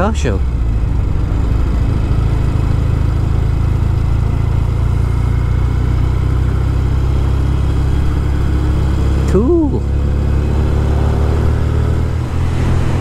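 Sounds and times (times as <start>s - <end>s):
constant rush of noise: 0.0s - 13.0s
motorcycle engine running: 0.0s - 13.0s.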